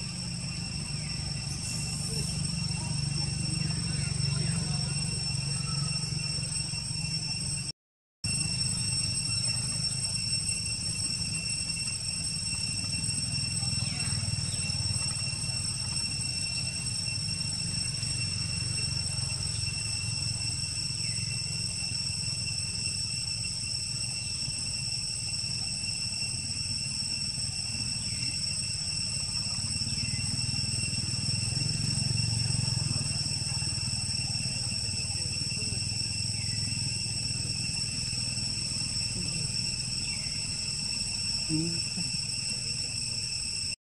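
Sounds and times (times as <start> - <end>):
high-pitched whine: 0.0 - 7.7, 8.3 - 43.8.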